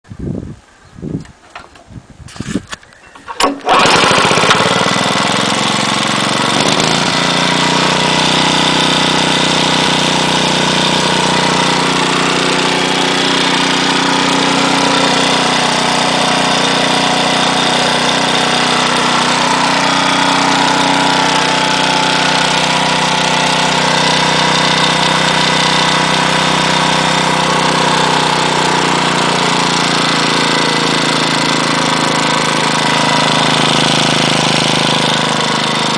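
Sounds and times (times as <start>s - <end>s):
engine running with knocking noise: 3.4s - 35.9s.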